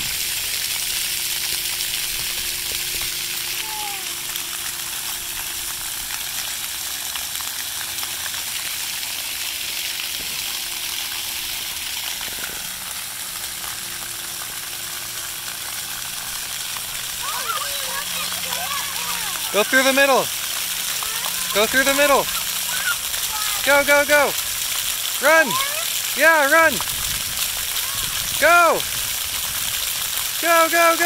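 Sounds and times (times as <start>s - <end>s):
fountain jets spraying water: 0.0s - 31.0s.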